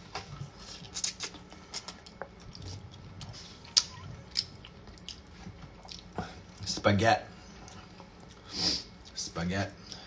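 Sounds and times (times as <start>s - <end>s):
chewing with wet clicks: 0.7s - 6.8s, 7.6s - 10.0s.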